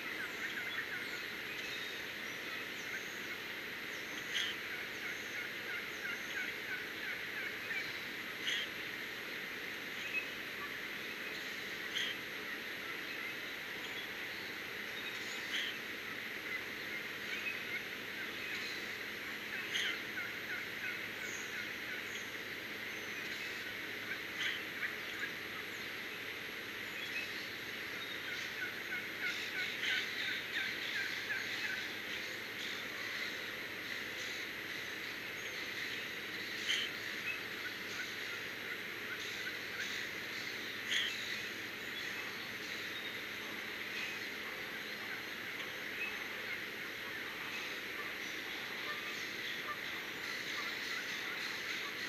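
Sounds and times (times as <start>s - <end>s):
birds chirping and whistling: 0.0s - 8.8s, 11.1s - 12.3s, 13.0s - 25.9s, 26.9s - 52.0s
steady outdoor hiss: 0.0s - 52.0s.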